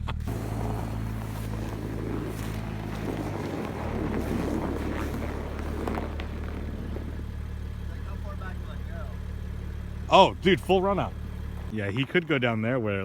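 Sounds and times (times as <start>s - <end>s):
car engine running at low revs: 0.0s - 11.8s.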